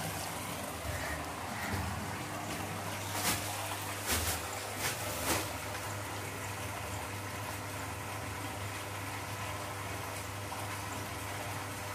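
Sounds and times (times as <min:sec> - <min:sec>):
pump electric hum: 0:00.0 - 0:11.9.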